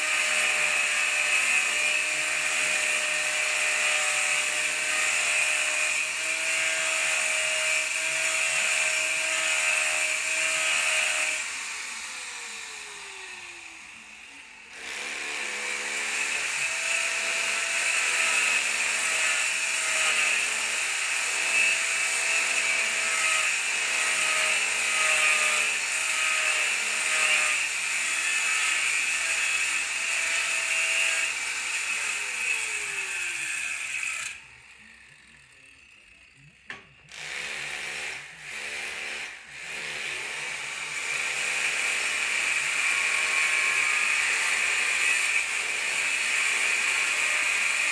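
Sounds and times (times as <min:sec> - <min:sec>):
power tool running: 0:00.0 - 0:47.9.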